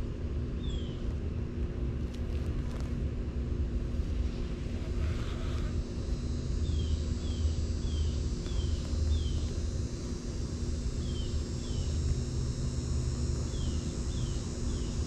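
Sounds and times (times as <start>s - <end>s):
faint machine hum: 0.0s - 15.0s
insect drone: 2.8s - 15.0s.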